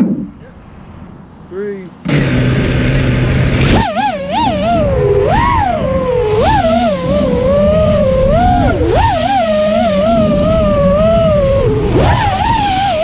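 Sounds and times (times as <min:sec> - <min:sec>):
low rushing noise: 0:00.0 - 0:13.0
quadcopter motors whining: 0:02.0 - 0:13.0.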